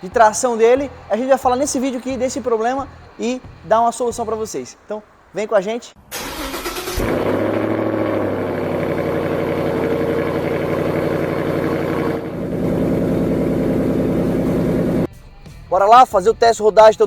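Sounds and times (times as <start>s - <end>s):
car engine idling: 0.0s - 15.1s.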